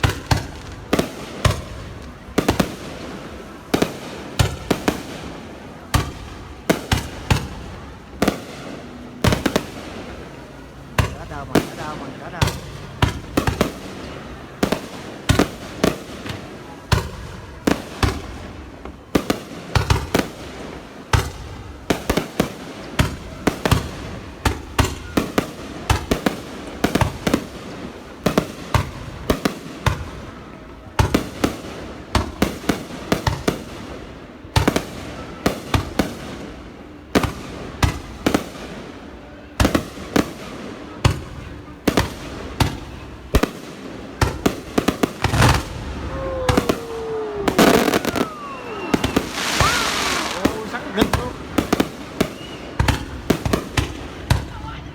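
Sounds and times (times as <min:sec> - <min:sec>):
fireworks bangs: 0:00.0 - 0:54.7.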